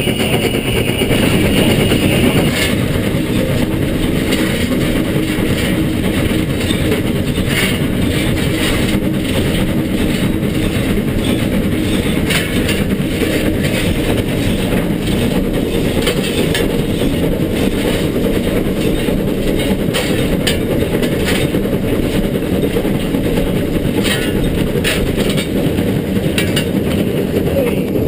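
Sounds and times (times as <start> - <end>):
sharp clicks and rail clatter: 0.0 - 28.0
steam locomotive rushing: 0.0 - 28.0.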